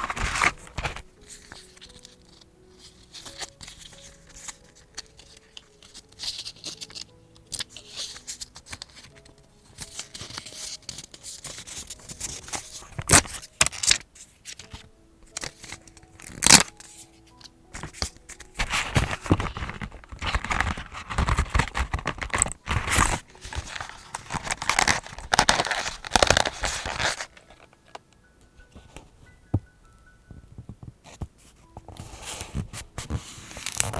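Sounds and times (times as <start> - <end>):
paper rustling and tearing: 0.0 - 17.1, 17.8 - 28.0, 32.0 - 33.9.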